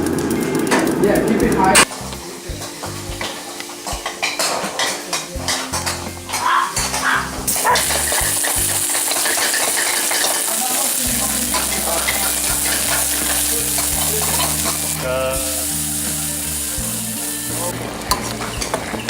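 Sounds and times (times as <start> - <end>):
curry paste sizzling in oil: 1.8 - 18.8.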